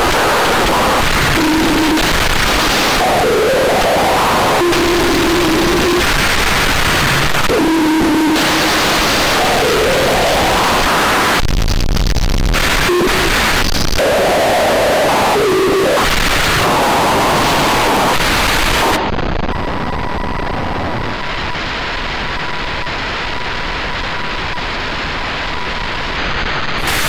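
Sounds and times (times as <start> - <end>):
harsh digital static and hiss: 0.0 - 27.0.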